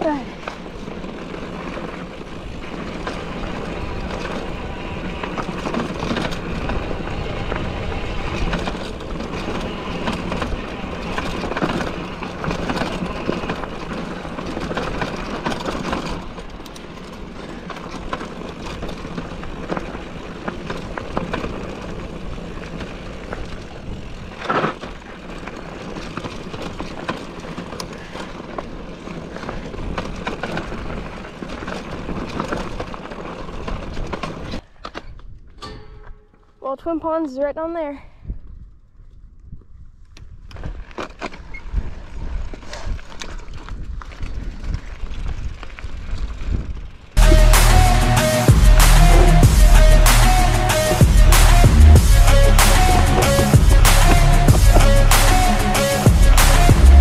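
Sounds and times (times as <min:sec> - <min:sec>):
bike tyre rumble on dirt: 0:00.0 - 0:50.1
bike clicking and rattling: 0:00.0 - 0:57.0.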